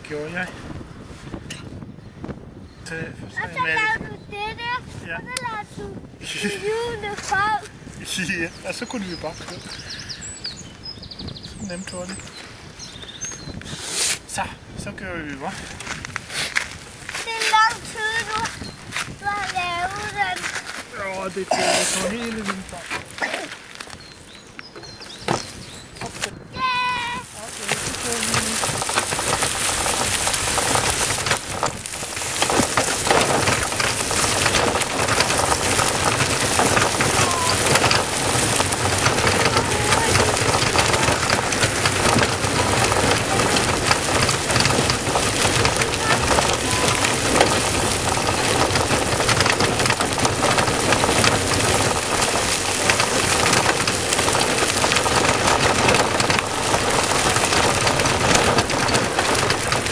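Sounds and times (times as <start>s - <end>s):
bike wheels on rough asphalt: 0.0s - 59.9s
crackling and rattling: 2.8s - 59.9s.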